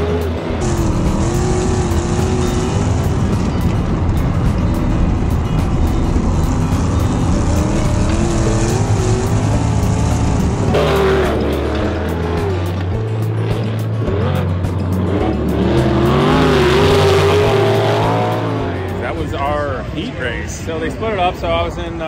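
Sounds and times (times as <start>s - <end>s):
background music with steady beat: 0.0s - 22.0s
race car engines at speed: 0.0s - 22.0s.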